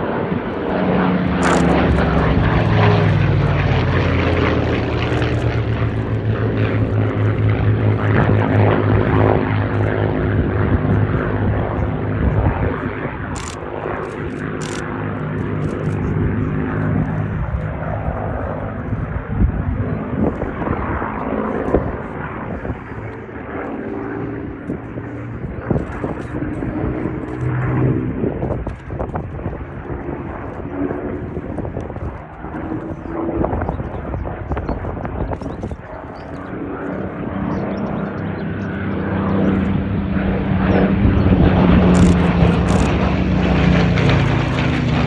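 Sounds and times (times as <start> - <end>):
aircraft piston engine droning: 0.0 - 45.0.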